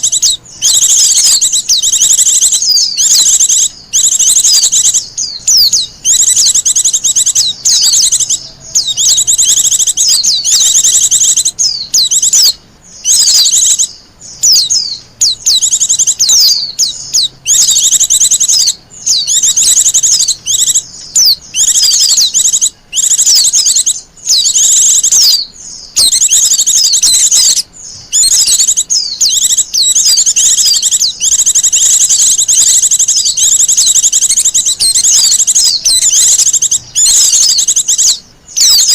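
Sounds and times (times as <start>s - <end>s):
bird twittering trills: 0.0s - 38.9s.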